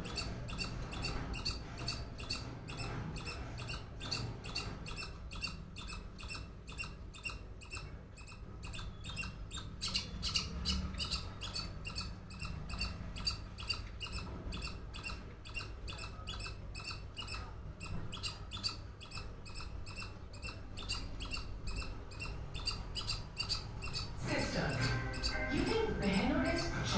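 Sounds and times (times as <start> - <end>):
squirrel chirping: 0.0 - 26.9.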